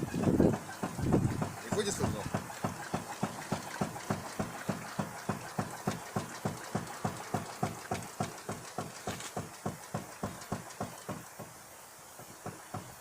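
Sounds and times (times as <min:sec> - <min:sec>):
car vibration: 0:00.0 - 0:11.2
rhythmic knocking under car: 0:00.0 - 0:11.6, 0:12.2 - 0:13.0.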